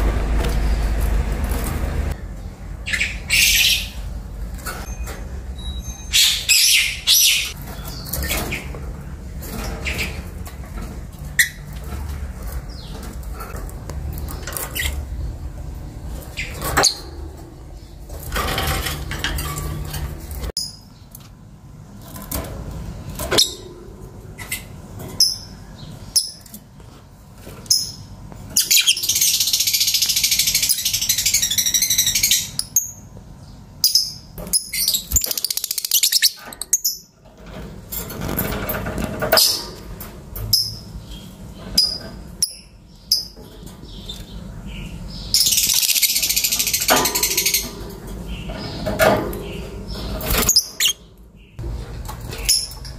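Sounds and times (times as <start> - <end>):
birds chirping: 0.3 - 21.7, 27.4 - 37.2, 39.3 - 52.9.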